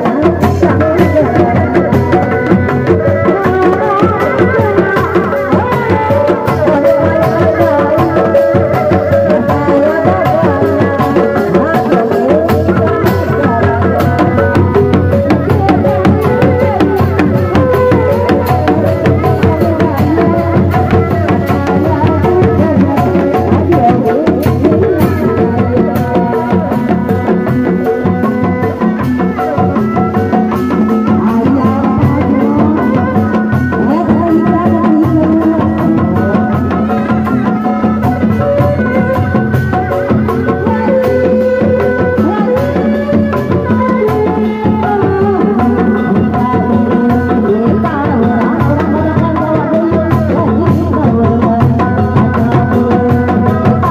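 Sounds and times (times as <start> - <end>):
hand drums fast beat: 0.0 - 53.9
wavering melody line: 0.0 - 53.9.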